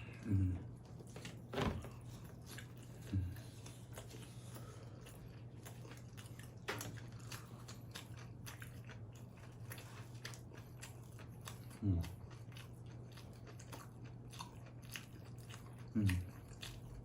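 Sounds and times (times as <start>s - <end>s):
low hummed mm: 0.0s - 17.0s
chewing food close up: 0.1s - 17.0s.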